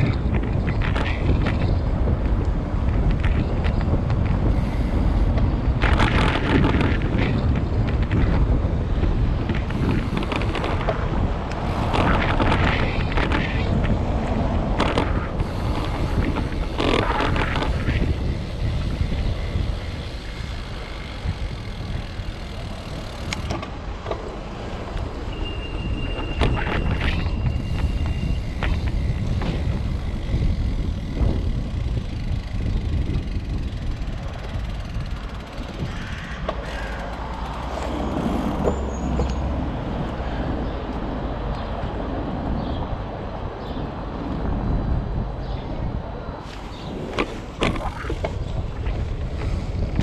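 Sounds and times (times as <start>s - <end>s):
low rumble of city traffic: 0.0s - 50.0s
wind over microphone: 0.0s - 50.0s.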